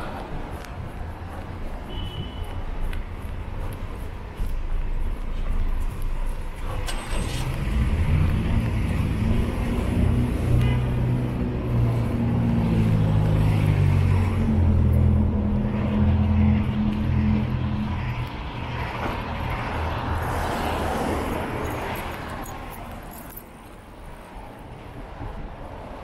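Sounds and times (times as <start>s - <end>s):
traffic rush: 0.0s - 26.0s
vehicle engine humming: 0.0s - 26.0s.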